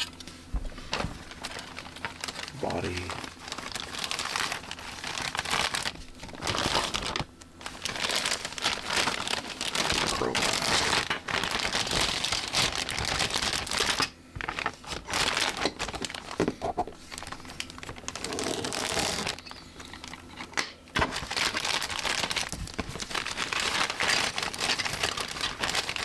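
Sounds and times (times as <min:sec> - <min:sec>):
plastic bags crinkling: 0:00.8 - 0:26.0.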